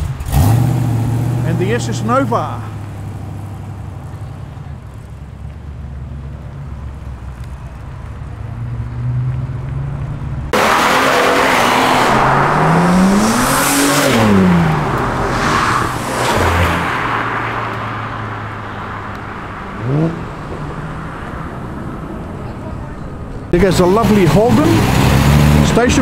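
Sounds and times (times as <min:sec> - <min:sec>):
car accelerating hard: 0:00.0 - 0:05.2, 0:08.3 - 0:22.8, 0:23.6 - 0:26.0
car engine rumbling: 0:00.0 - 0:26.0.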